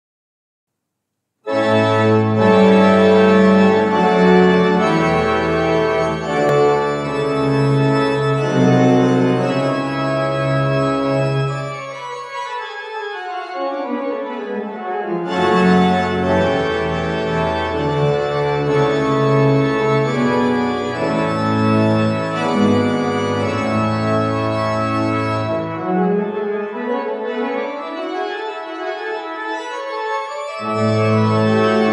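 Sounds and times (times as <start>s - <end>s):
pipe organ playing chords: 1.5s - 31.9s.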